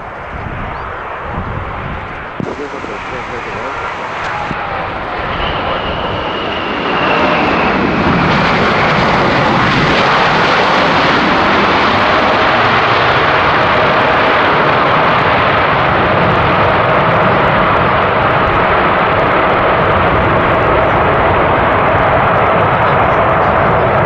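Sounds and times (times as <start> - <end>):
high engine whine: 0.0 - 24.0
jet engine rumble: 0.0 - 24.0.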